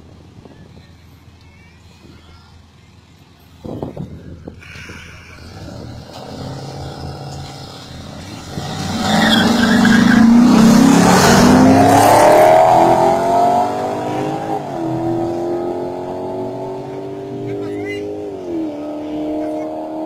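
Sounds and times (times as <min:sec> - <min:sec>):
car engines at full throttle: 0:03.6 - 0:20.0.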